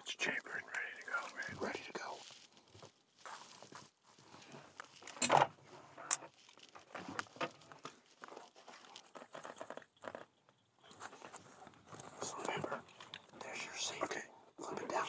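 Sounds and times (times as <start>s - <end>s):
rustling of clothing and straps: 0.0s - 15.0s.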